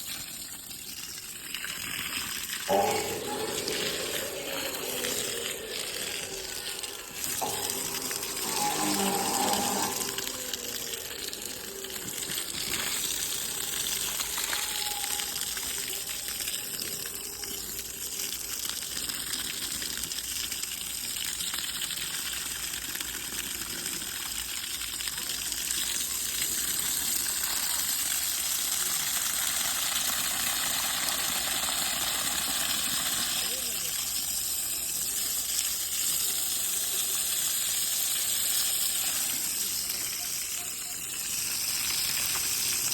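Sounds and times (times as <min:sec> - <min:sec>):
water gushing from hose onto concrete: 0:00.0 - 0:42.9.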